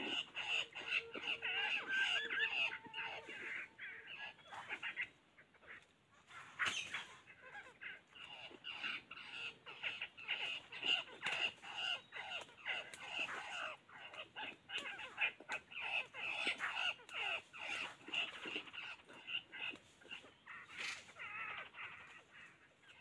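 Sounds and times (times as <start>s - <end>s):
birds calling and chattering: 0.0s - 23.0s.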